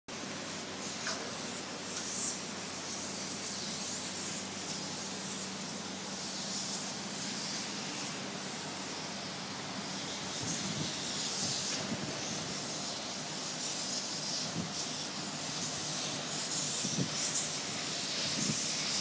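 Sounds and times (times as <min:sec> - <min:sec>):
outdoor background hiss: 0:00.1 - 0:19.0.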